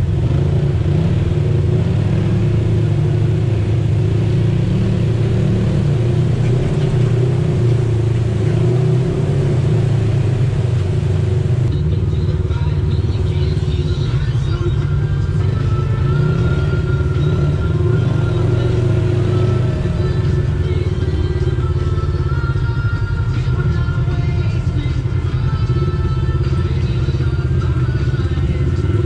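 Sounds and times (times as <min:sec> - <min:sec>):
engine low drone: 0:00.0 - 0:29.0.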